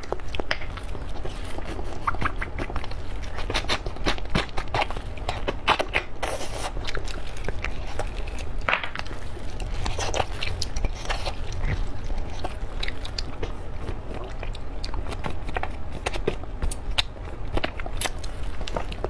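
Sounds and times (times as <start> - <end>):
chewing meat: 0.0 - 19.0.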